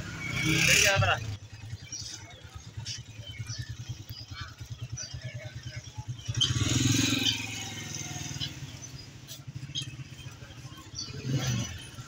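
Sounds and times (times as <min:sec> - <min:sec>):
motorcycle engine passing: 0:00.0 - 0:12.0.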